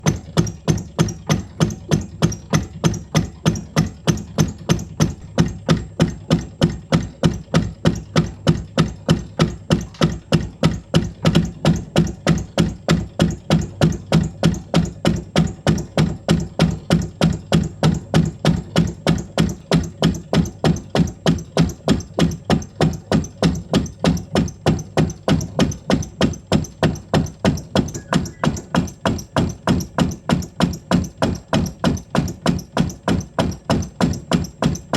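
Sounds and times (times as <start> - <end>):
machine knocking cricket bat: 0.0 - 34.9.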